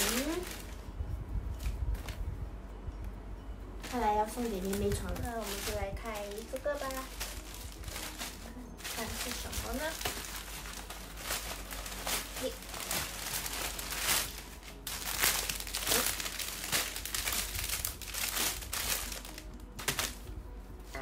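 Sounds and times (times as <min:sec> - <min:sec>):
plastic packaging crinkling: 0:00.0 - 0:00.8, 0:03.8 - 0:20.4.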